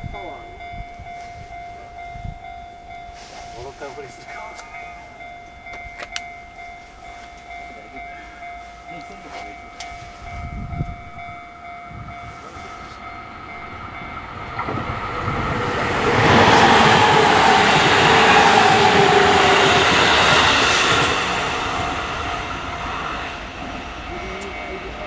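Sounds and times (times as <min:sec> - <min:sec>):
electric train approaching: 0:00.0 - 0:25.0.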